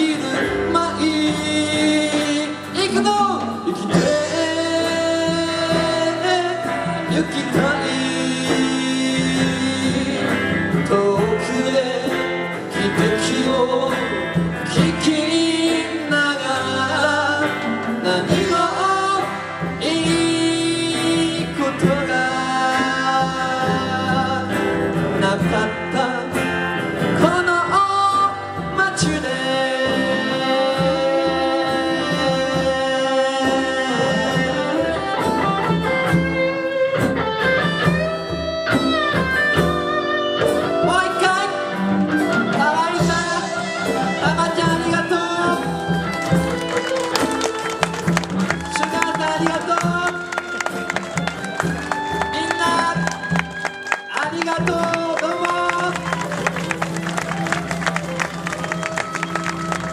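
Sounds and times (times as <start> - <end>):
guitar: 0.0 - 59.9
live folk band playing: 0.0 - 59.9.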